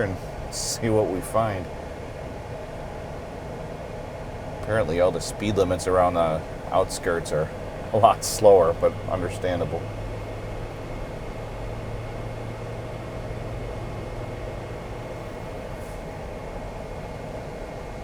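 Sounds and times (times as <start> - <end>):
car road and engine noise: 0.0 - 18.0
faint high whine: 0.0 - 18.0.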